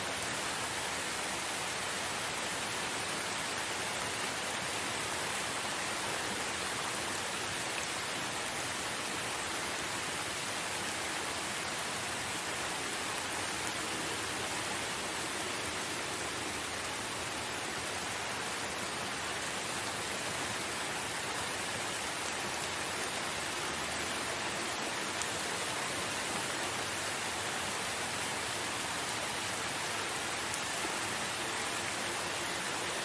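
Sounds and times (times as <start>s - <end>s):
rain falling in forest: 0.0s - 33.0s.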